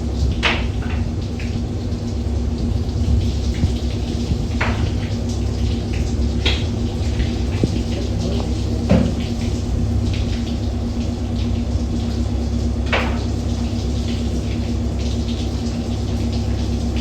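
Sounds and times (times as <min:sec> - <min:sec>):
water running from a tap: 0:00.0 - 0:17.0.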